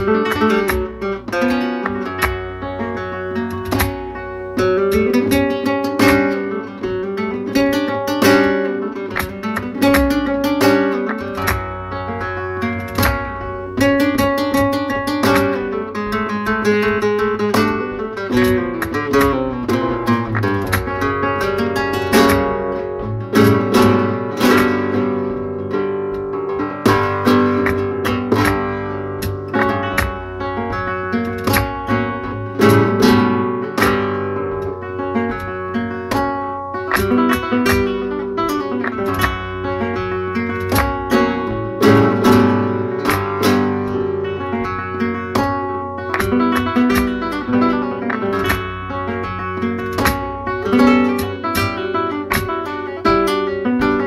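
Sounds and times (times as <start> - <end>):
flamenco guitar: 0.0 - 54.0.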